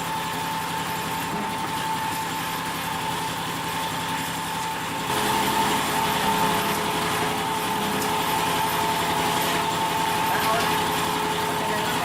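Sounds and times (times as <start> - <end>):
small engine droning hum: 0.0 - 12.0.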